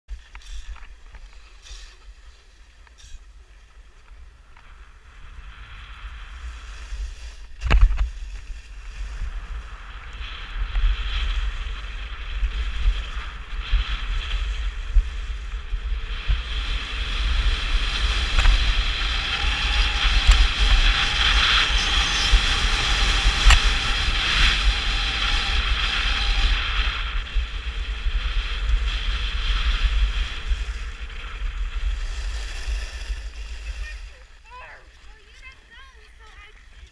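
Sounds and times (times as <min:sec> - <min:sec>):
wind rumbling on microphone: 0:00.1 - 0:36.9
skis scraping over snow: 0:05.0 - 0:36.9.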